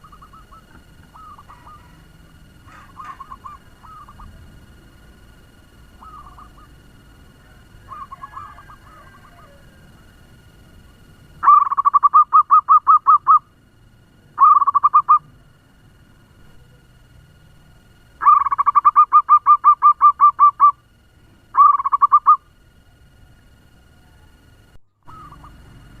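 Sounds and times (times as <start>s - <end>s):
dove cooing: 0.0s - 10.6s, 11.2s - 13.6s, 14.4s - 15.6s, 18.2s - 24.4s, 25.0s - 26.0s.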